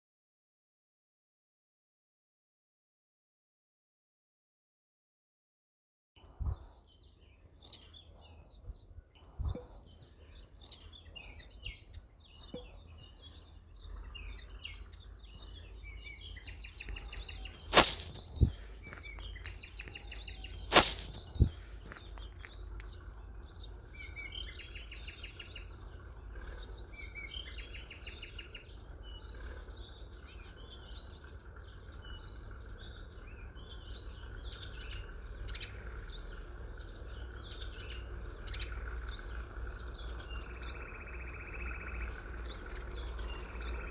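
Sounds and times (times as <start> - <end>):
buzzy bird trills: 6.2 - 43.9
small birds chirping: 6.2 - 43.9
steady low rumble: 6.3 - 43.9.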